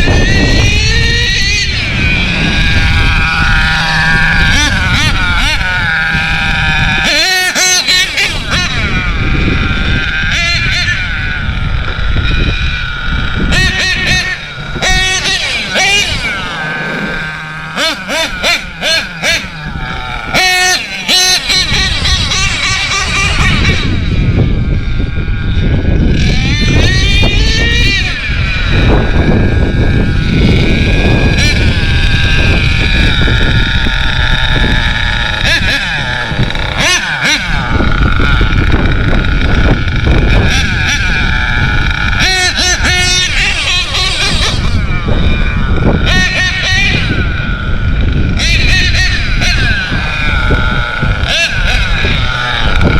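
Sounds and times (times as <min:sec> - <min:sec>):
heavy low rumble: 0:00.0 - 0:52.9
model truck engine revving: 0:00.0 - 0:52.9.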